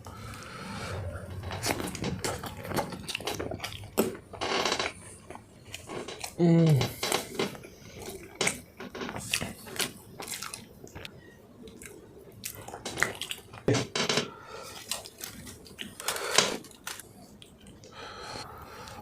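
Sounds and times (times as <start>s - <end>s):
person chewing food: 0.0s - 13.8s, 14.5s - 19.0s.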